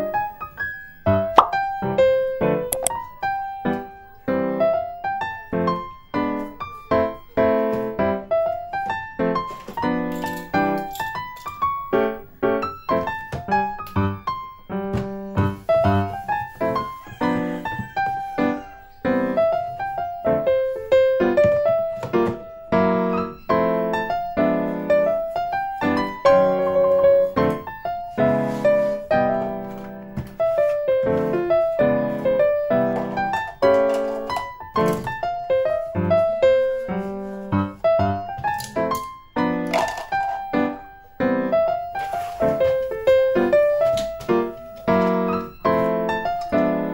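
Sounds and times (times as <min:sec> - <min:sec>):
gentle piano melody: 0:00.0 - 0:46.9.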